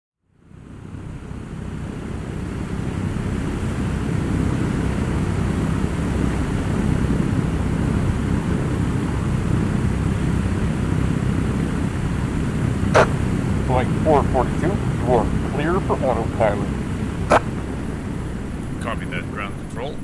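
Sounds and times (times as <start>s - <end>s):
airplane droning in flight: 0.2s - 20.0s.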